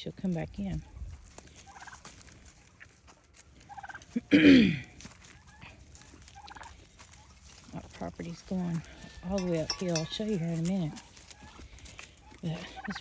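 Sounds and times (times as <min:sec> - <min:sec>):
turkeys gobbling: 0:00.8 - 0:13.0.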